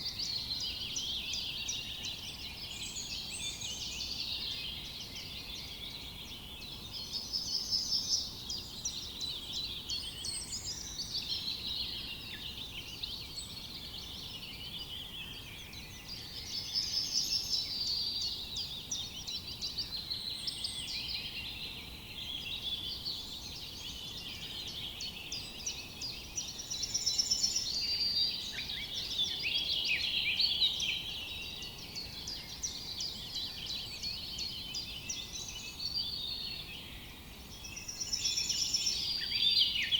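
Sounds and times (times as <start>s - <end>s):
forest background hiss: 0.0s - 39.9s
songbirds singing: 0.0s - 39.9s.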